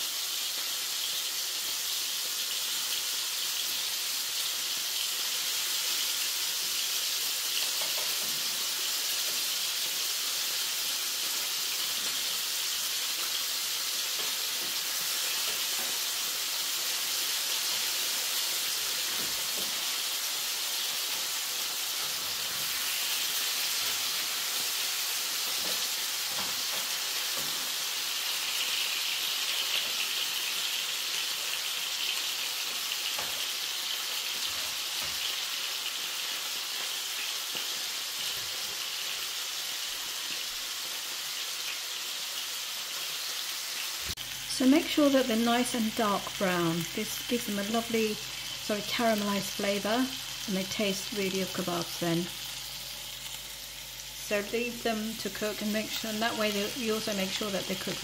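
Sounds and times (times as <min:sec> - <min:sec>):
meat sizzling in a frying pan: 0:00.0 - 0:58.0.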